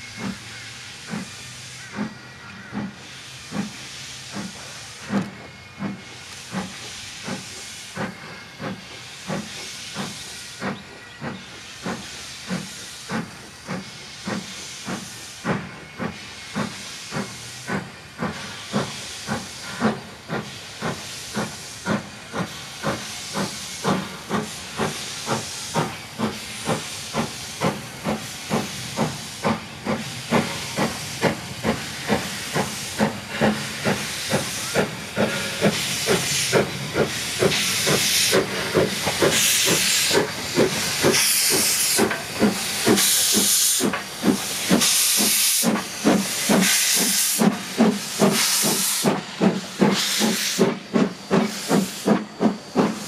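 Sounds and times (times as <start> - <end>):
hissing steam: 0.0 - 53.0
steam locomotive chuffing: 0.0 - 53.0.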